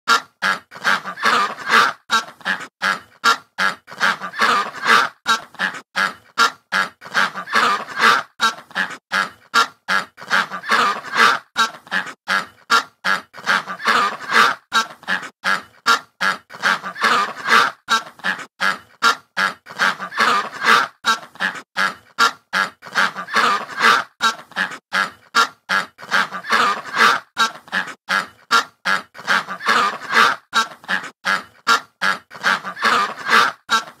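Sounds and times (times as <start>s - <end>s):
geese honking: 0.1s - 33.9s.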